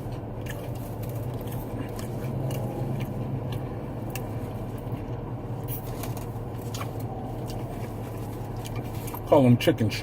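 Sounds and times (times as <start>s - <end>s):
man chewing food: 0.0s - 9.3s
steady low hum: 0.0s - 10.0s.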